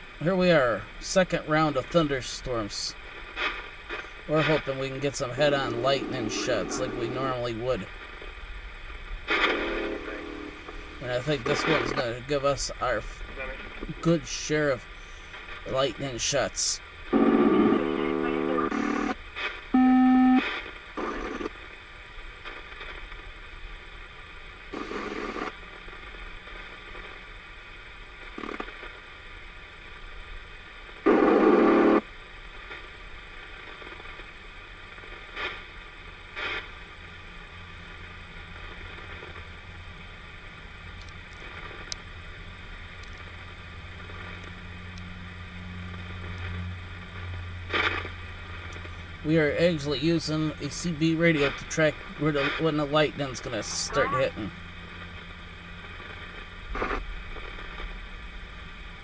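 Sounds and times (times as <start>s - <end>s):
static crashes: 0.0s - 29.2s, 30.8s - 59.0s
radio static hiss: 0.0s - 59.0s.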